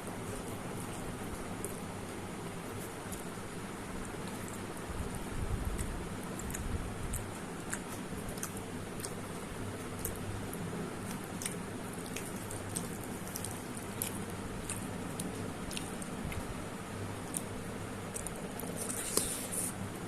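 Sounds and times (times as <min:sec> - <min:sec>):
steady low hum: 0:00.0 - 0:20.0
wet squishy chewing: 0:02.6 - 0:19.8.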